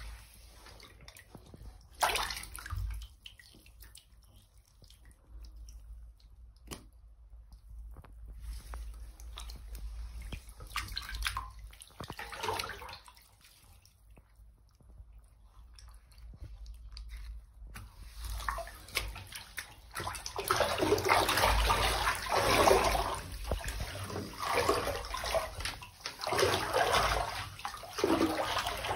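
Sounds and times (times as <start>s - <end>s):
bathwater sloshing and splashing: 0.0s - 28.9s.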